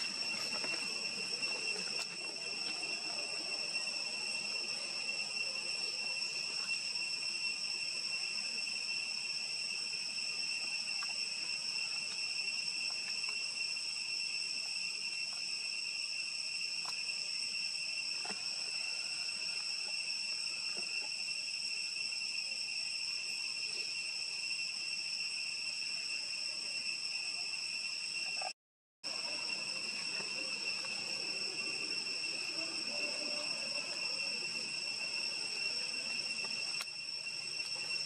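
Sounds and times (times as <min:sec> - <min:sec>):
insect chorus drone: 0:00.0 - 0:38.0.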